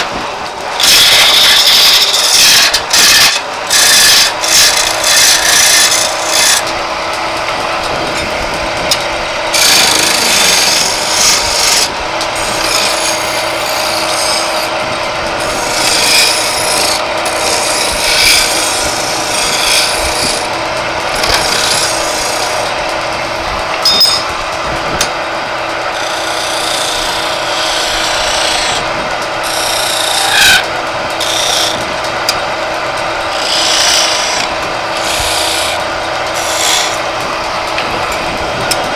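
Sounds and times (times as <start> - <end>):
chisel scraping spinning wood: 0.0 - 38.9
wood lathe humming: 0.0 - 38.9.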